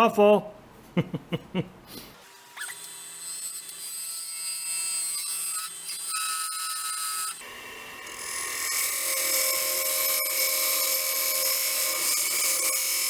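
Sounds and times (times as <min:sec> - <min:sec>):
tool cutting wood hiss: 0:02.1 - 0:13.0
wood lathe whining: 0:02.2 - 0:13.0.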